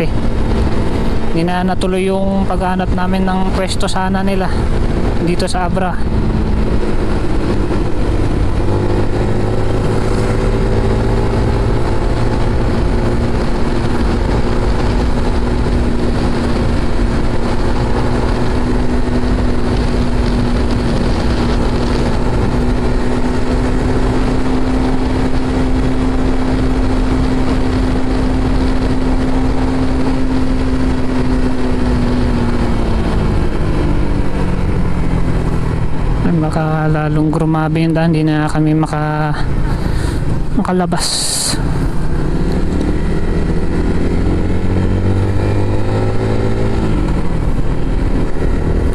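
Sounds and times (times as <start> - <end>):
motorcycle engine cruising: 0.0 - 48.9
road and wind noise: 0.0 - 48.9.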